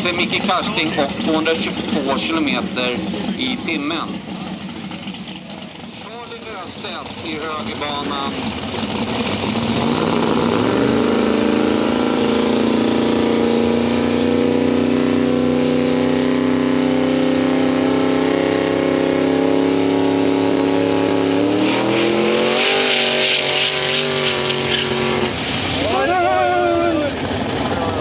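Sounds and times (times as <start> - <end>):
racing car engine revving: 0.0 - 28.0.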